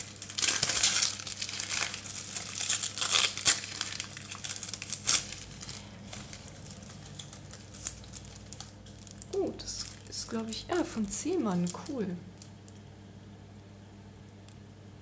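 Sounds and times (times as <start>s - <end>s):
wrapping paper crinkling and tearing: 0.0s - 12.5s.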